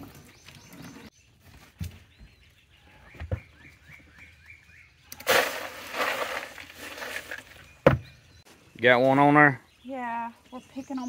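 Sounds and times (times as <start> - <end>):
bird chirping: 0.0 - 5.3, 6.8 - 11.0.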